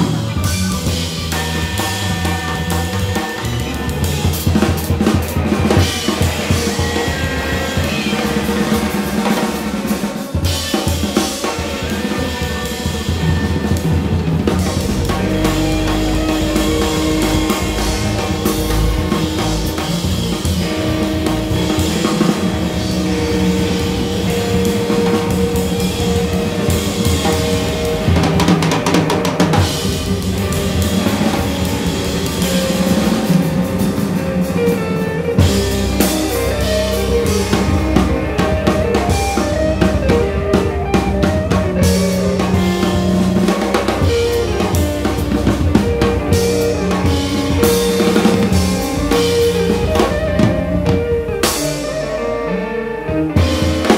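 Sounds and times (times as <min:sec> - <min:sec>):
jazz trio playing: 0:00.0 - 0:53.9.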